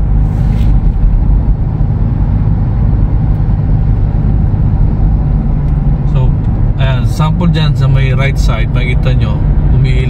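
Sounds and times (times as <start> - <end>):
road and engine noise in car: 0.0 - 10.0.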